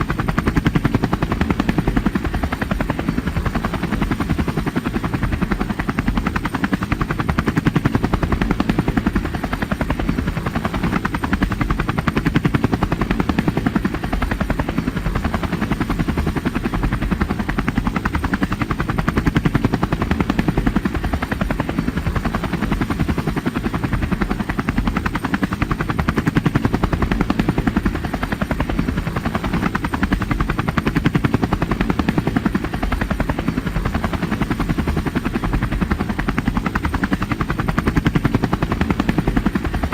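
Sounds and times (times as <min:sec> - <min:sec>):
helicopter rotor blades chopping: 0:00.0 - 0:39.9.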